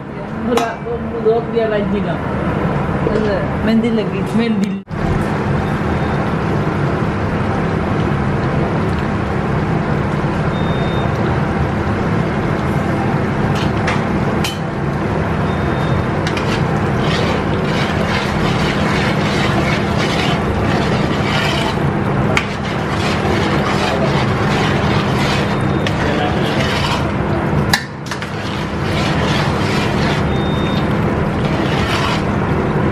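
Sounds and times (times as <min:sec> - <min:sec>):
gas range and extraction drone: 0:04.9 - 0:32.9.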